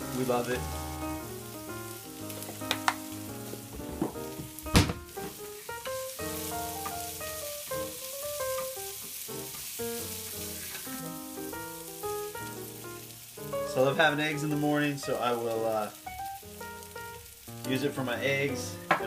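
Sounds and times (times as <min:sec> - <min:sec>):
background music: 0:00.0 - 0:19.0
food sizzling in pan: 0:00.0 - 0:19.0.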